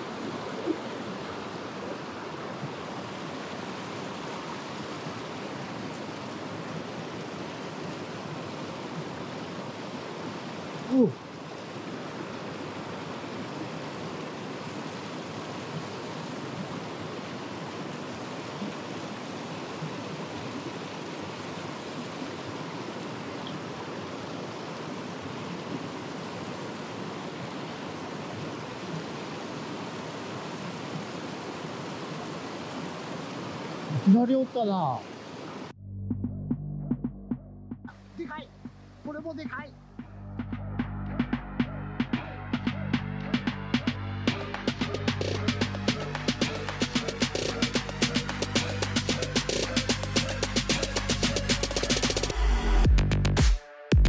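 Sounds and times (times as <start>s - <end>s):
stream rushing over rocks: 0.0s - 35.8s, 41.4s - 52.9s.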